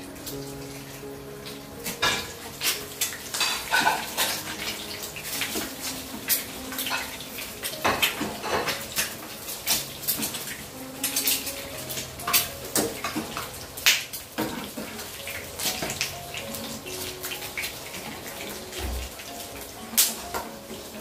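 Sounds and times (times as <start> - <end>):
hot oil sizzling in a pan: 0.0 - 21.0.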